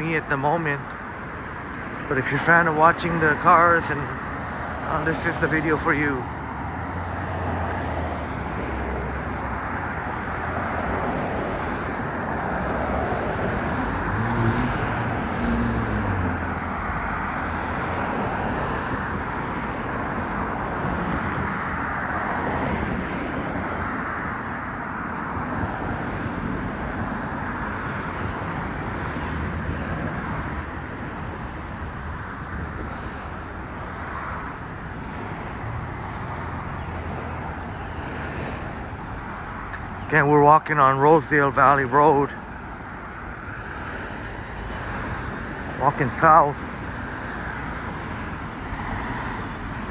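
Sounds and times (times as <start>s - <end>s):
cars passing with tyre hiss: 0.0s - 49.9s.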